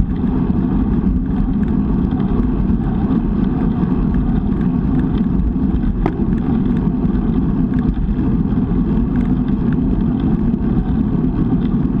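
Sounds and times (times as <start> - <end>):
tyre noise on asphalt: 0.0 - 12.0
wind buffeting microphone: 0.0 - 12.0.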